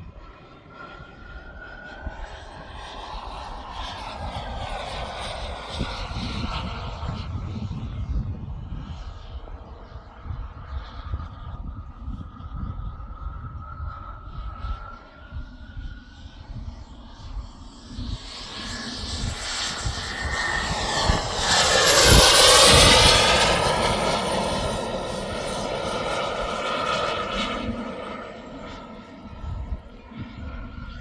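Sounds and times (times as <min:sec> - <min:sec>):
model jet turbine whine: 0:00.0 - 0:31.0.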